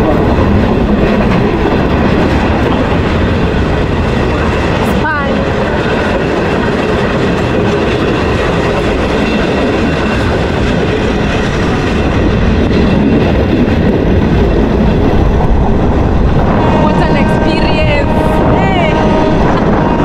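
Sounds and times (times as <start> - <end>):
train wheels on rails: 0.0 - 20.0.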